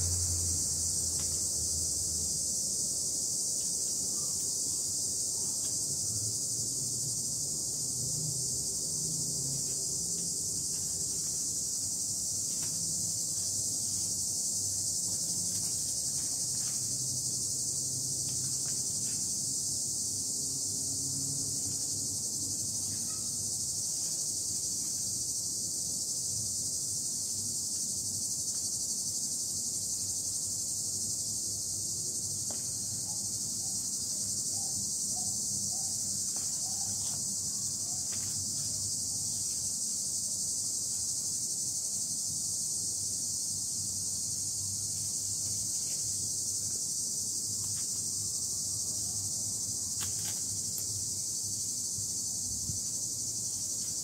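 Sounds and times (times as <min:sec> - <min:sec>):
crickets chorus: 0:00.0 - 0:54.0.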